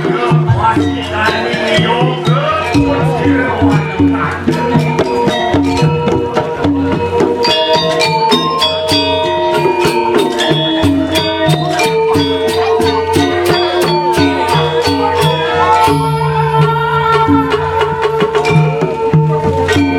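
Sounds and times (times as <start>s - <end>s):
gamelan music: 0.0s - 19.9s.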